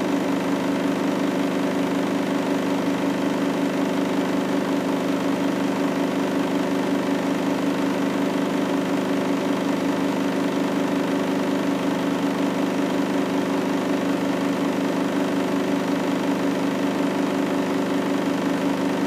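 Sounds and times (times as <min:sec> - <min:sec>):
washing machine hum: 0:00.0 - 0:19.0.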